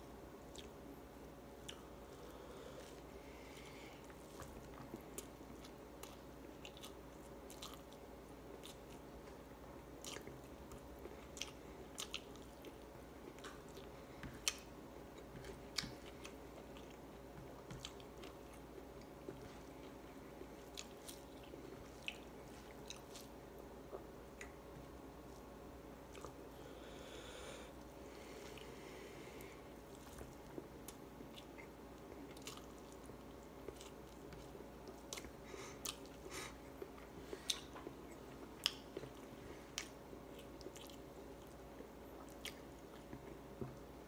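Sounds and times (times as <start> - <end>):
person chewing close to microphone: 0.5 - 0.8, 1.6 - 26.7, 29.4 - 44.0.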